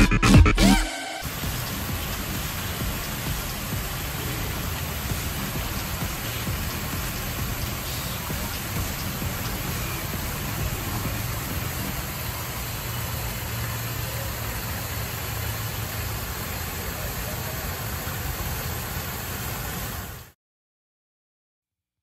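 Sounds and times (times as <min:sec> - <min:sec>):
fountain water splashing: 0:01.2 - 0:20.4.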